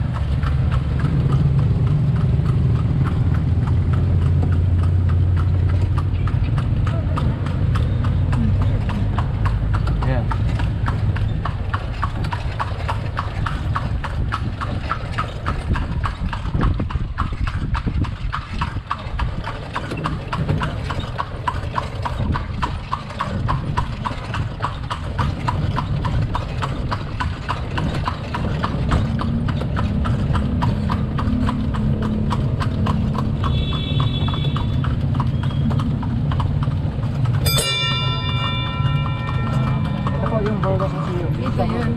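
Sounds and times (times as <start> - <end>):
hooves clip-clopping on pavement: 0.0 - 41.9.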